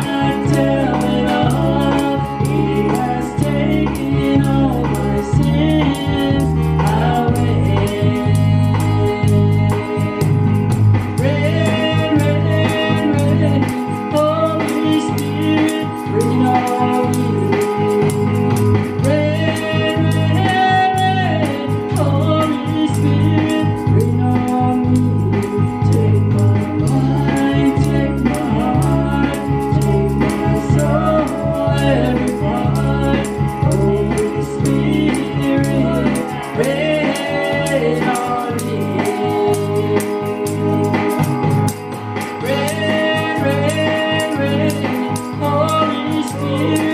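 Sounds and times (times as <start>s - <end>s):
instrumental accompaniment of chords: 0.0s - 46.9s.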